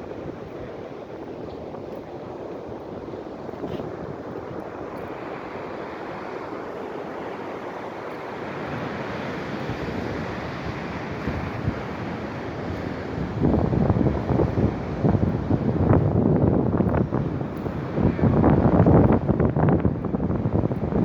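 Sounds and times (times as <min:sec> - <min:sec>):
wind buffeting microphone: 0:00.0 - 0:21.0
ocean surf breaking: 0:03.2 - 0:21.0.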